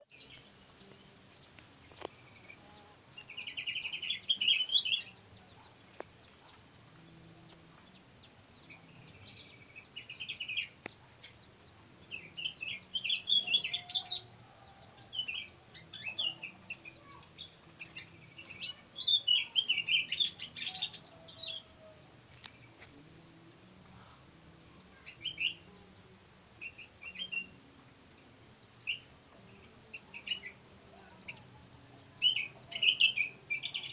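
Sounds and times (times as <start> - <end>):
birds twittering: 0.0 - 33.9.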